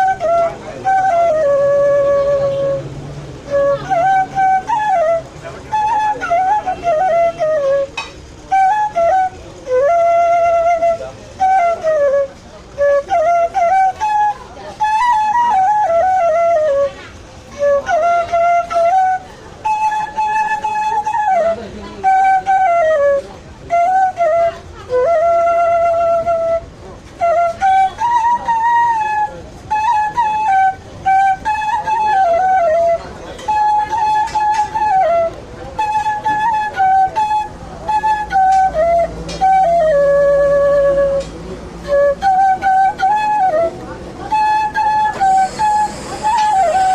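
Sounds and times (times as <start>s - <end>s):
bamboo flute melody: 0.0s - 46.9s.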